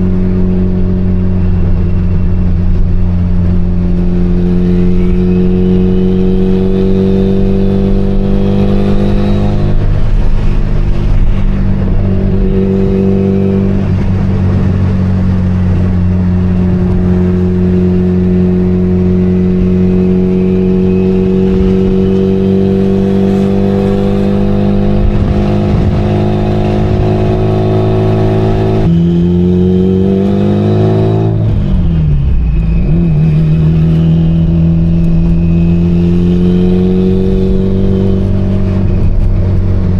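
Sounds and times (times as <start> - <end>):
car engine running while driving: 0.0 - 39.9.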